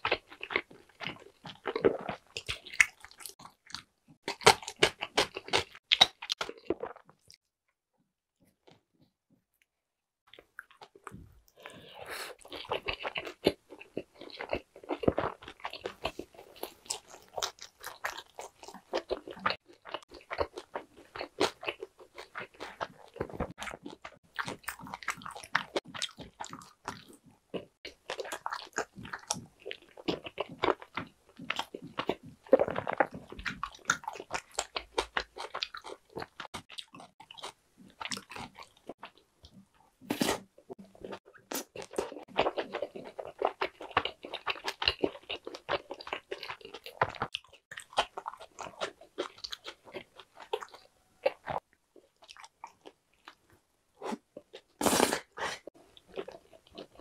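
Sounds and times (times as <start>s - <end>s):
wet chewing: 0.0s - 7.4s, 10.3s - 57.0s.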